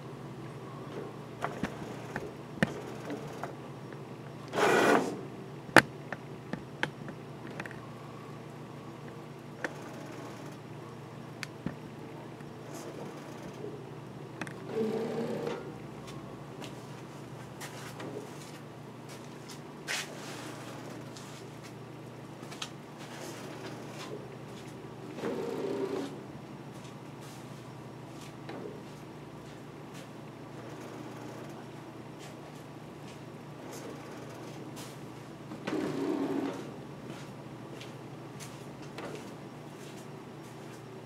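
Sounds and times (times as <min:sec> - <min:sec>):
cnc router drive hum: 0:00.0 - 0:19.1, 0:20.3 - 0:38.0.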